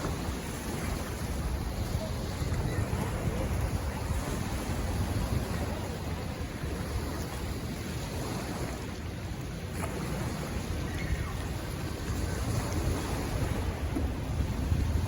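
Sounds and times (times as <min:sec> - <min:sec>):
ocean surf: 0:00.0 - 0:15.0
wind noise on microphone: 0:00.0 - 0:15.0.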